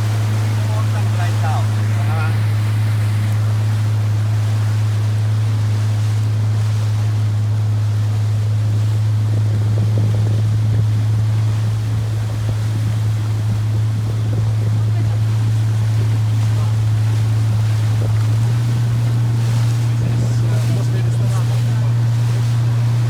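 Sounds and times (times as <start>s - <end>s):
boat engine droning: 0.0s - 23.0s
water noise: 0.0s - 23.0s
wind: 0.0s - 23.0s.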